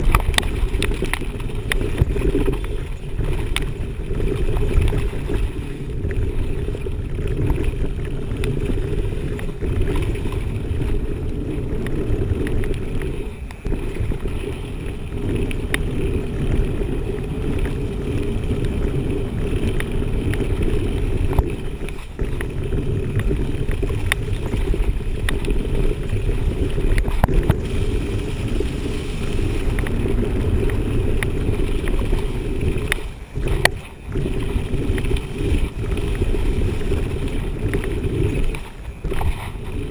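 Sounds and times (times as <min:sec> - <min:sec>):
bike clicks and rattles: 0:00.0 - 0:39.9
tyres rumbling on dirt trail: 0:00.0 - 0:39.9
wind: 0:00.0 - 0:39.9.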